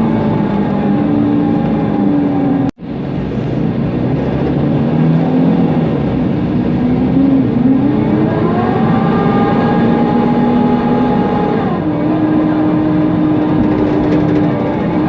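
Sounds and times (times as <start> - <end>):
bus engine: 0.0 - 15.0
loud cooling fan: 0.0 - 15.0
road noise: 0.0 - 15.0.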